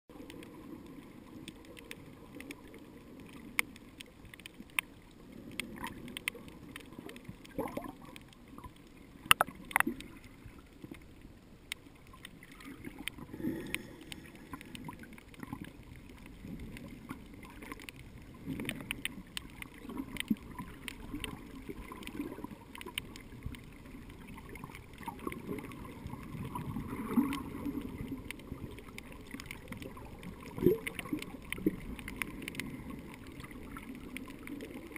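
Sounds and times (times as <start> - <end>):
underwater water wash: 0.1 - 34.9
sharp clicks and pops: 0.2 - 34.9.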